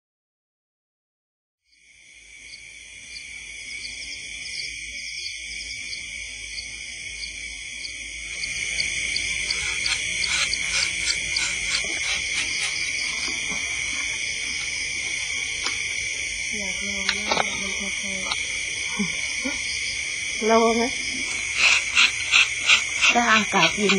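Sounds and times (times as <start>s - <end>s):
high-pitched insect drones: 1.7s - 23.9s
insect chirps: 1.7s - 23.9s.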